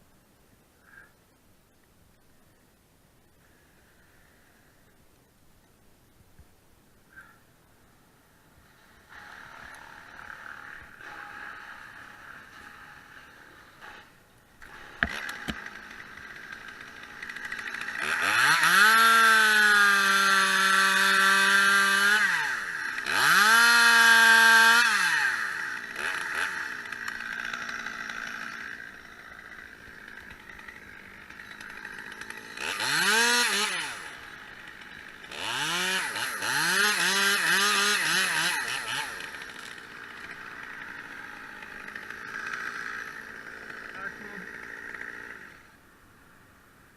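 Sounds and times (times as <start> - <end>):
chainsaw revving: 8.6 - 46.4.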